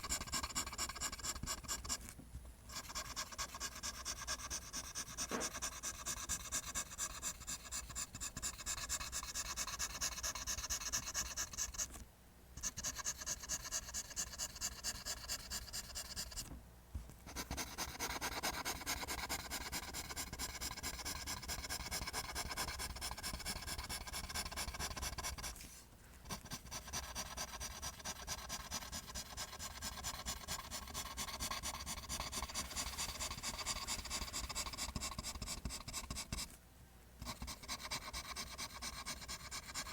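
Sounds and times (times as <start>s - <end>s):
pencil scratching on paper: 0.0s - 12.0s, 12.6s - 16.5s, 17.3s - 36.5s, 37.2s - 39.9s.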